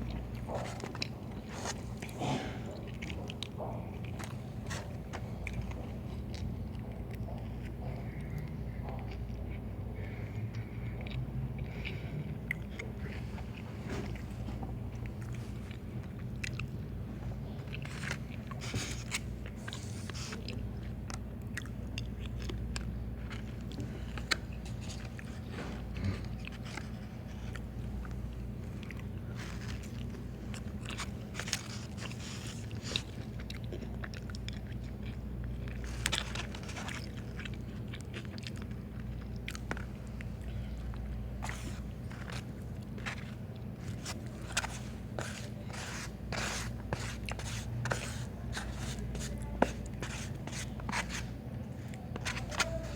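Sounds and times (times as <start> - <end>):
chewing and biting food: 0.0 - 52.9
steady low hum: 0.0 - 52.9.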